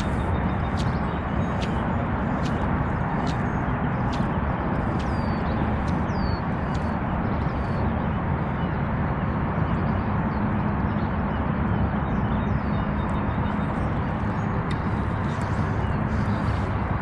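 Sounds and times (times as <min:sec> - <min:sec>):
low outdoor rumble: 0:00.0 - 0:11.3, 0:11.9 - 0:17.0
faint steady hum: 0:00.0 - 0:17.0.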